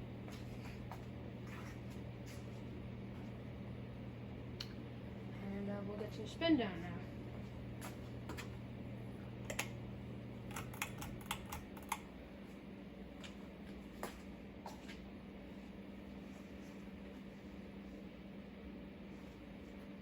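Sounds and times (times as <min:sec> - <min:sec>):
faint ceiling fan motor hum: 0:00.0 - 0:20.0.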